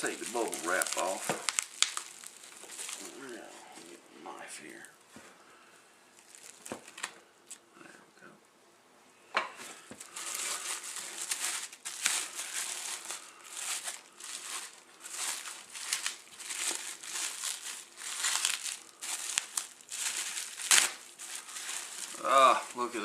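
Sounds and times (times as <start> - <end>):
bubble wrap crinkling and rustling: 0.0 - 4.0, 6.1 - 7.6, 9.6 - 23.0.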